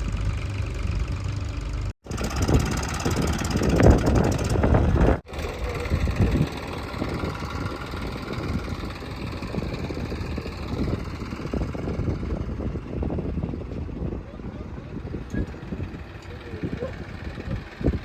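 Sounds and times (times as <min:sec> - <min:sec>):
heavy machinery diesel engine running: 0:00.0 - 0:18.0.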